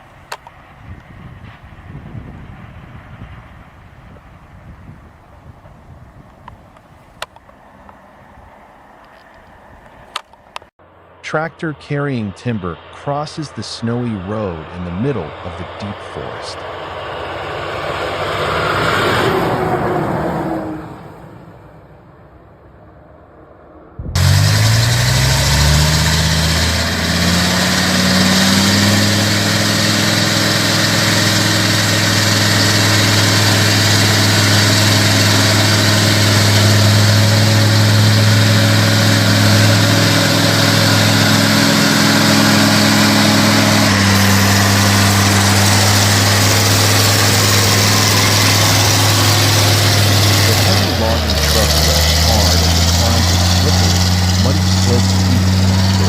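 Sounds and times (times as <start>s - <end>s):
heavy vehicle engine: 0.0s - 56.0s.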